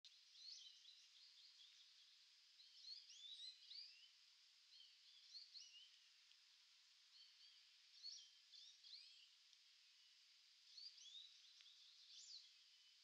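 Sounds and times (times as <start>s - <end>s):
high hiss of outdoor ambience: 0.1s - 13.0s
small birds chirping: 0.1s - 13.0s.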